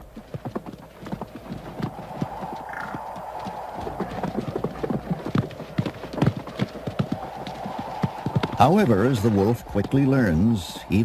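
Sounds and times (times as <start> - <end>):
heavy hoofbeats on ground: 0.0 - 11.0.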